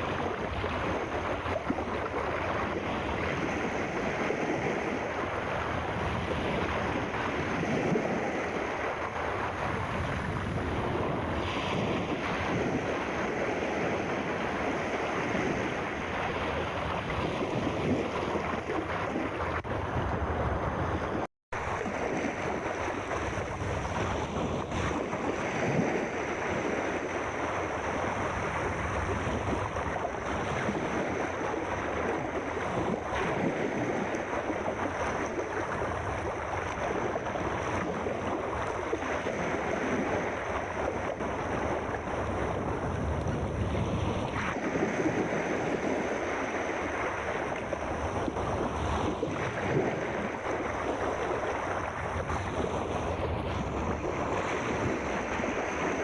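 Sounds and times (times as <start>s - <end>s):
sea waves and surf: 0.0s - 56.0s.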